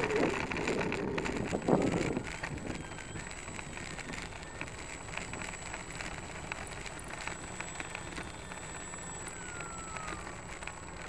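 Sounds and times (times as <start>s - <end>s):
electric motor whine: 0.0s - 11.0s
toy plane rattling on pavement: 0.0s - 11.0s.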